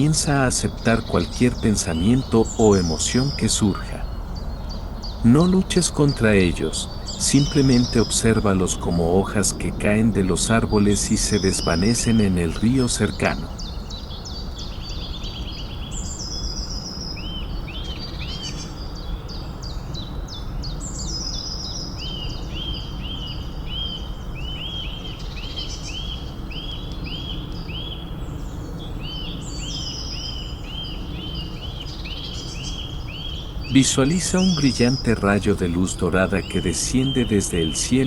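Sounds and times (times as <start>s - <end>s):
birds chirping: 0.0s - 38.0s
high falling bird trill: 0.0s - 38.0s
low background rumble: 0.0s - 38.0s.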